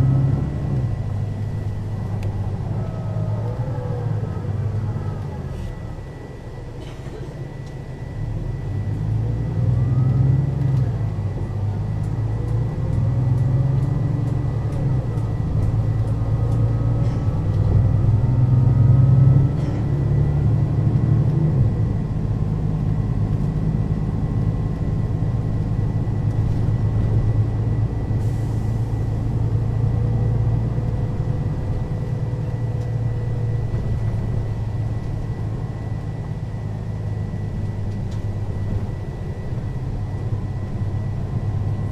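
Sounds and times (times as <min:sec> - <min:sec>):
bus engine accelerating: 0:00.0 - 0:41.9.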